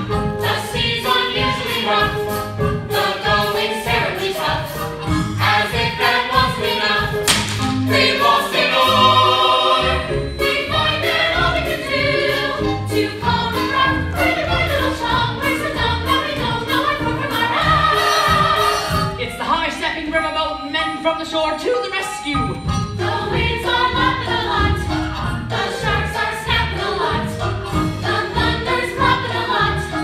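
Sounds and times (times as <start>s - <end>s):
group singing a show tune: 0.0s - 19.2s, 22.7s - 30.0s
instrumental backing track: 0.0s - 30.0s.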